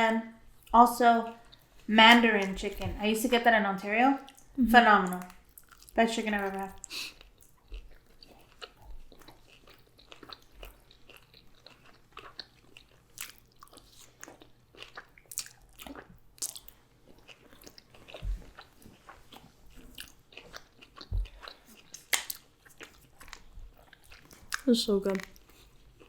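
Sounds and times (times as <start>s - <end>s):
chewing and biting food: 4.2s - 26.0s.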